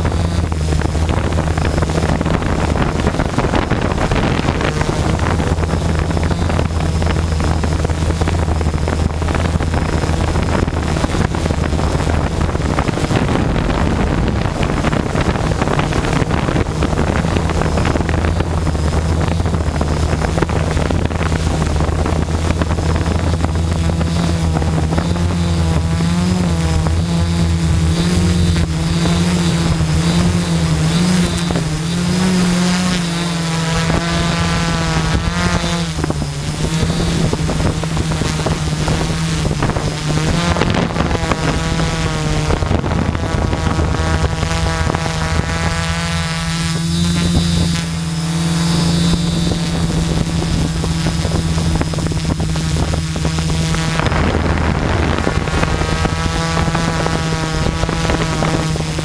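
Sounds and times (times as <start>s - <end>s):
quadcopter motors whining: 0.0s - 59.0s
wind noise on microphone: 0.0s - 59.0s.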